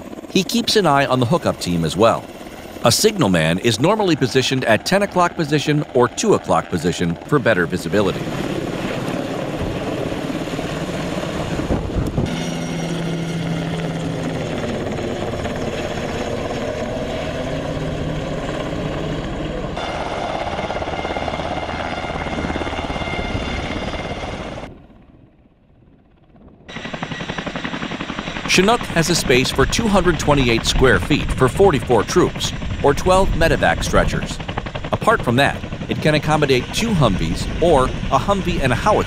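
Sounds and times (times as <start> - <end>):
helicopter rotor and engine: 0.0 - 39.0.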